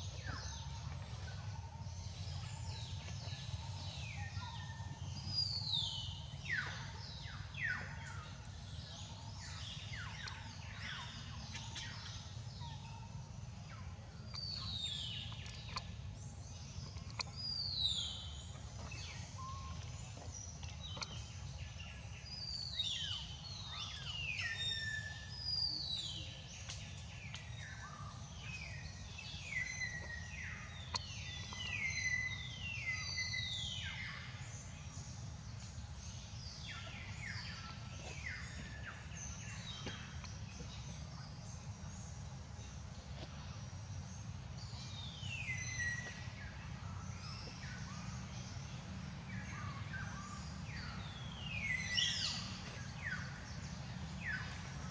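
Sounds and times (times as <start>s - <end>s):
low outdoor rumble: 0.0s - 54.9s.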